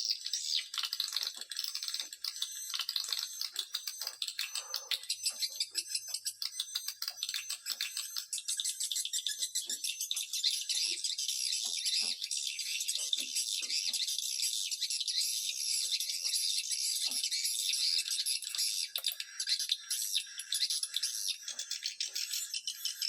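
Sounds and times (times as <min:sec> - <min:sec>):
swiftlets twittering and clicking: 0:00.0 - 0:23.0.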